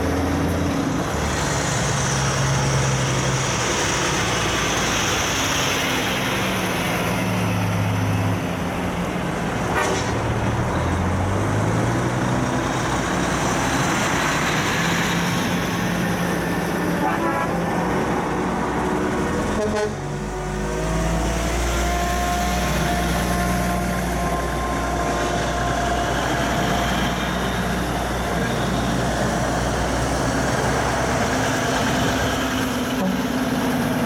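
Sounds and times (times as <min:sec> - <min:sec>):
diesel trucks passing: 0:00.0 - 0:34.0
tyre and road noise: 0:00.0 - 0:34.0.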